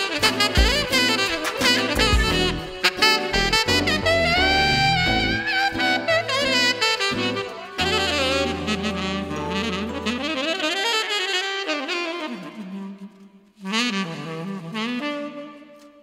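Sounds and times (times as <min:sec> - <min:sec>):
jazz saxophone melody: 0:00.0 - 0:16.0.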